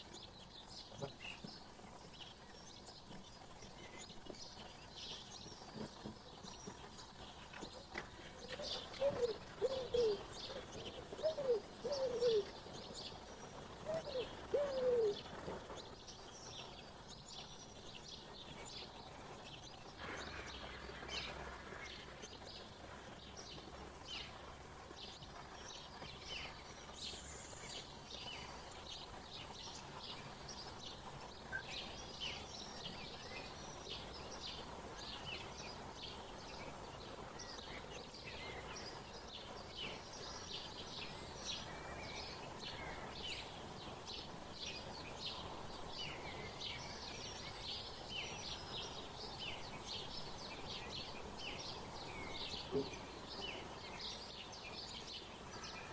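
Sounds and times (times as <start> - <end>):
faint background hiss: 0.0 - 55.9
small birds chirping: 0.0 - 55.9.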